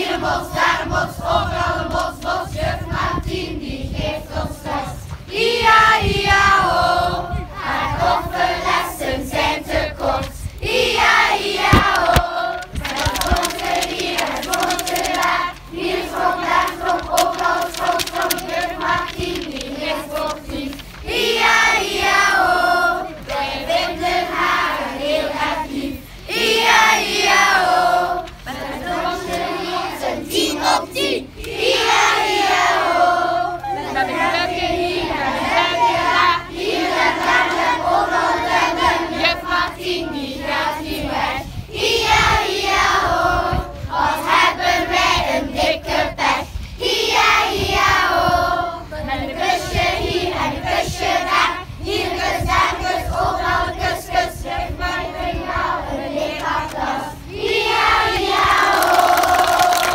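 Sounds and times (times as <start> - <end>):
children singing together: 0.0 - 59.9.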